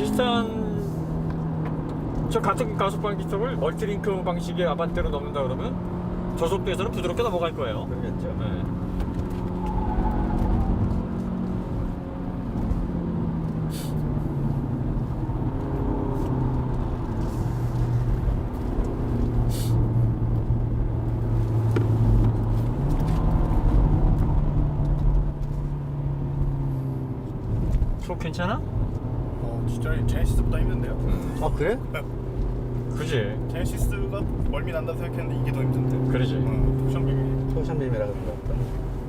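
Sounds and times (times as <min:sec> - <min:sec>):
car engine droning: 0:00.0 - 0:39.0
road and tyre noise: 0:00.0 - 0:39.0.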